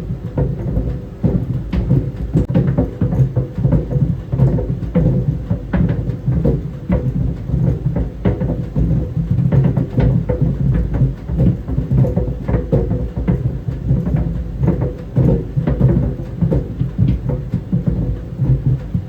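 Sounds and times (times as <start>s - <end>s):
balls thumping in dryer drum: 0.0s - 19.0s
dryer drum low rumble: 0.0s - 19.0s.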